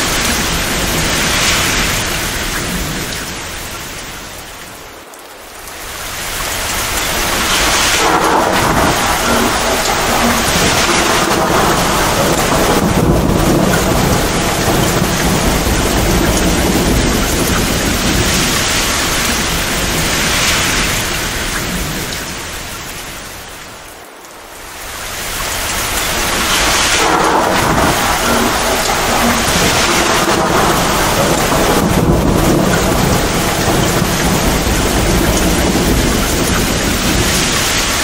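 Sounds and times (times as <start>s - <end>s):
heavy rain pouring: 0.0s - 38.0s
low thunder rumbling: 6.0s - 23.9s, 24.8s - 38.0s.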